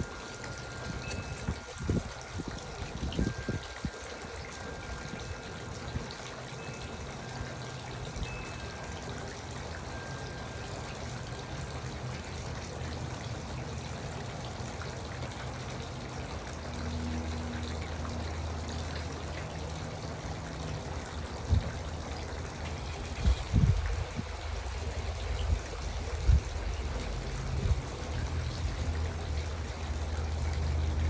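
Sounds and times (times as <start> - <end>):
fountain water trickling: 0.0 - 31.0.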